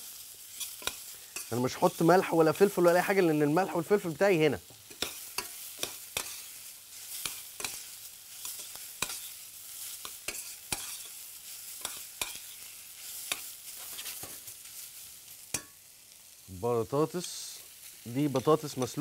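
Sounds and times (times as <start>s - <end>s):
green beans sizzling in a pan: 0.0s - 19.0s.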